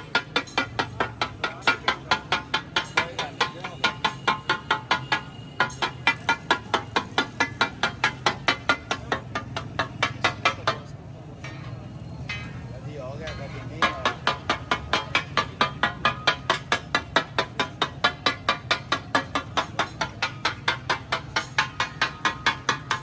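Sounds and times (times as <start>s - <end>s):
metal spatulas striking griddle: 0.0s - 23.0s.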